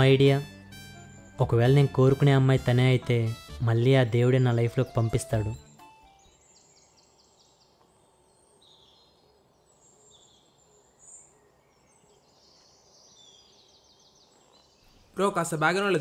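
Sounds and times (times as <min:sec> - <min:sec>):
distant birds chirping: 0:00.0 - 0:16.0.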